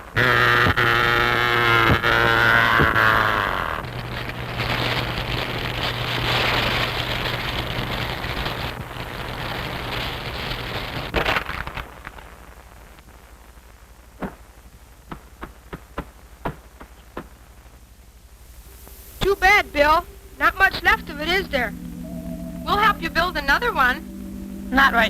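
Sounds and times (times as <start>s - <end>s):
hiss: 0.0s - 22.6s
fire crackles: 0.0s - 25.0s.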